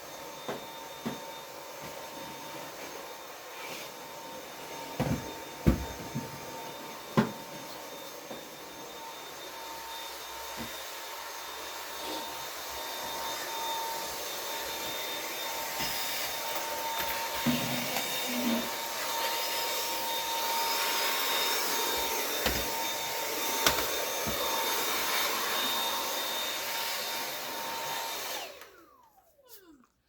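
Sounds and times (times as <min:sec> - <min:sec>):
vacuum cleaner with high whine: 0:00.0 - 0:29.6.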